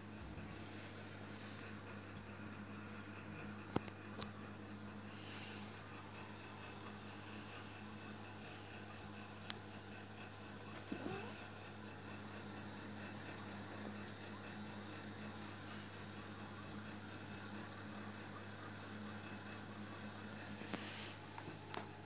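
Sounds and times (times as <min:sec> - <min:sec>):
aquarium bubbling: 0:00.0 - 0:22.0
trickling water: 0:00.0 - 0:22.0.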